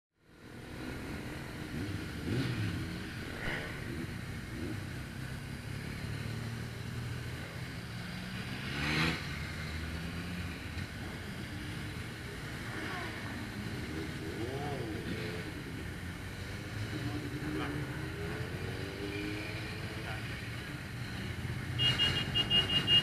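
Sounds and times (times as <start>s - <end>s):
motorcycle engines running: 0.2s - 23.0s
motorcycle revving: 0.2s - 23.0s.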